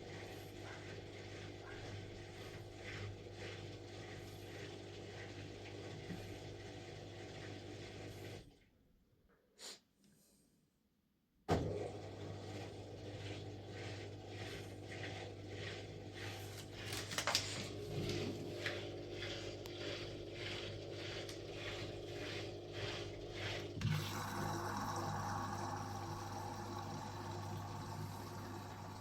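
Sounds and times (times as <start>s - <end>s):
washing machine motor hum: 0.0s - 8.9s, 11.5s - 29.0s.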